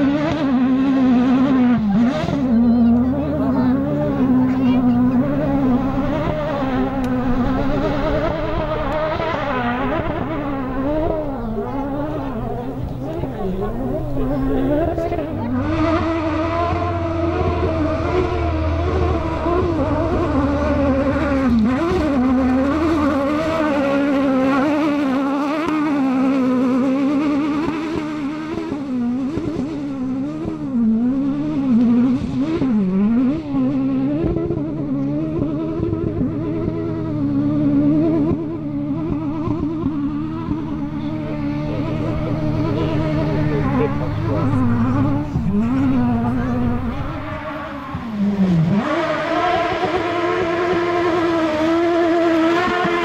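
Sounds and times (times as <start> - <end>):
high-revving rally car engine: 0.0 - 53.0.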